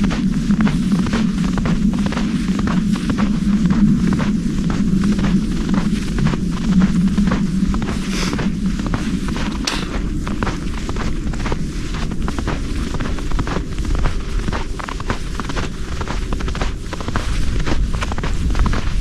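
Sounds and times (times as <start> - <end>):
footsteps crunching in snow: 0.0 - 19.0
wind buffeting microphone: 0.0 - 19.0.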